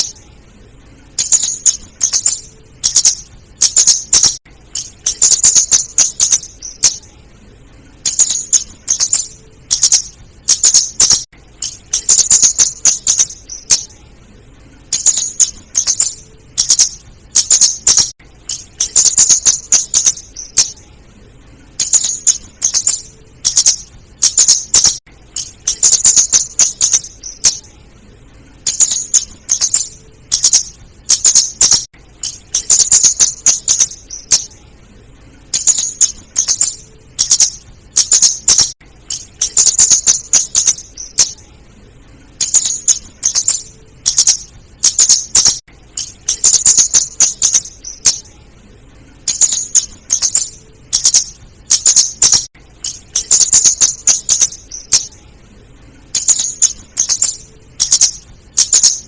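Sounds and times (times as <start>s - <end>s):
bird high ticking calls: 0.0s - 0.2s, 1.1s - 7.1s, 8.0s - 14.0s, 14.9s - 20.8s, 21.8s - 27.7s, 28.6s - 34.6s, 35.5s - 41.4s, 42.4s - 48.3s, 49.3s - 55.2s, 56.1s - 59.0s.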